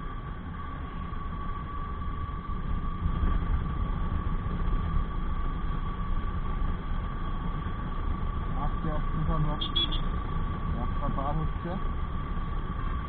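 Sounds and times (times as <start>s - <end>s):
motorcycle engine running: 0.0s - 13.0s
thin steady whine: 0.0s - 13.0s
wind rumble on microphone: 0.0s - 13.0s.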